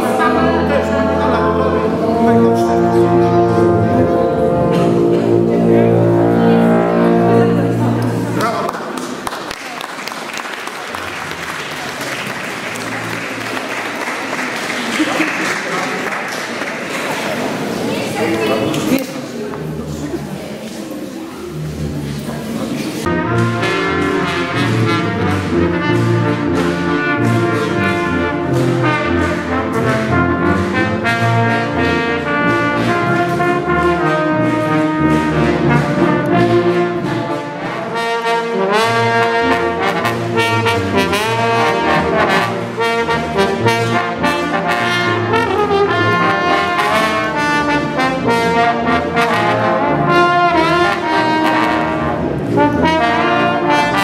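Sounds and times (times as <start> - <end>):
brass ensemble playing: 0.0 - 16.5, 21.4 - 54.0.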